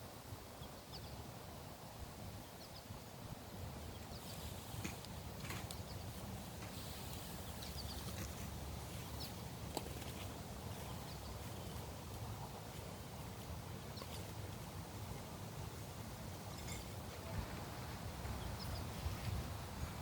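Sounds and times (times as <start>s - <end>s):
wind buffeting microphone: 2.0s - 20.0s.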